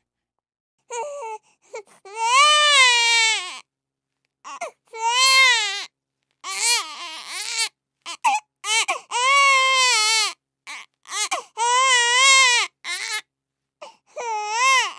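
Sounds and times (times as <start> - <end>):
baby crying: 0.9 - 3.6, 4.5 - 13.2, 14.1 - 14.9.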